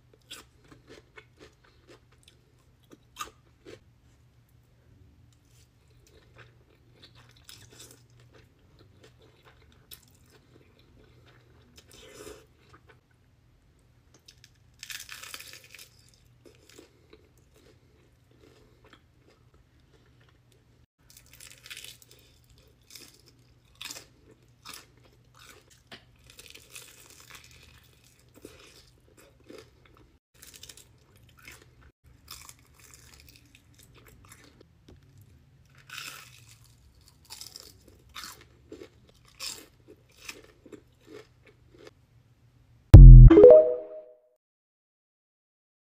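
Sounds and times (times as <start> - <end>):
crunching bites of fried chicken: 0.1 - 3.8, 5.4 - 13.0, 14.1 - 42.0.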